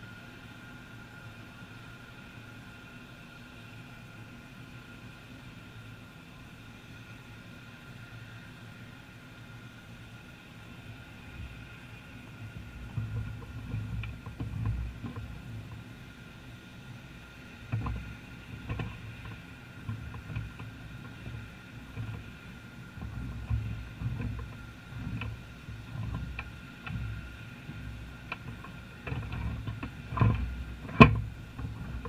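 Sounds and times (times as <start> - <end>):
airplane engine and propeller drone: 0.0 - 32.0.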